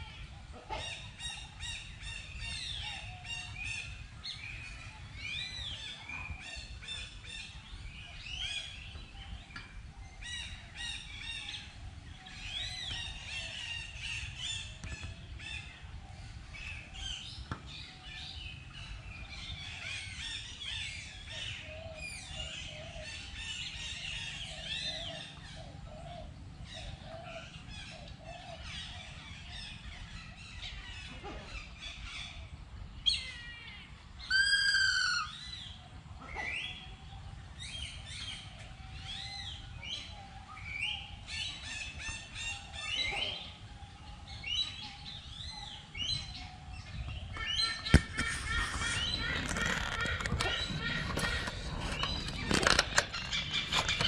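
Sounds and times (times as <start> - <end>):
birds chirping and calling: 0.0 - 54.0.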